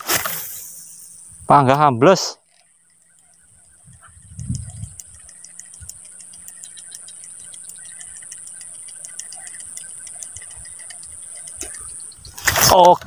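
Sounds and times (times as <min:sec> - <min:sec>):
high insect buzz: 0:00.0 - 0:13.0
fishing reel clicking: 0:02.4 - 0:13.0.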